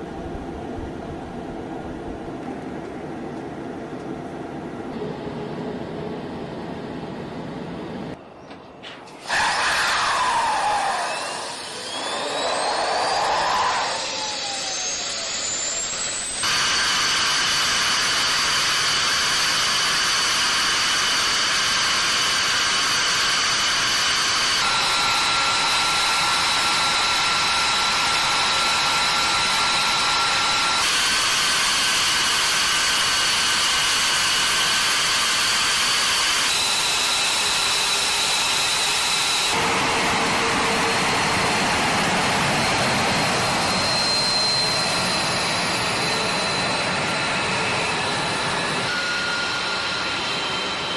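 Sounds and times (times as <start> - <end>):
jet engines spooling up: 9.1 - 50.9.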